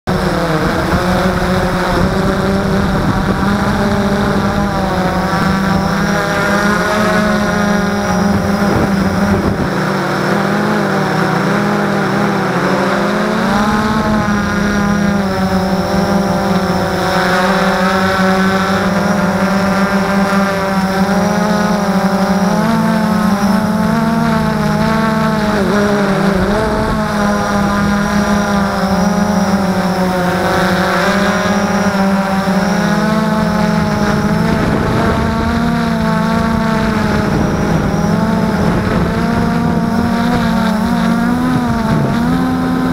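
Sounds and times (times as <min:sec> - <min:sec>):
quadcopter motors whining: 0:00.1 - 0:42.9.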